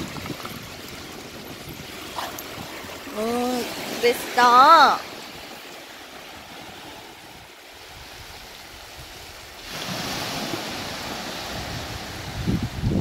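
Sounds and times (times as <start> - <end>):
wind rumbling on microphone: 0.0 - 4.1, 6.2 - 13.0
small waves breaking on beach: 0.0 - 13.0.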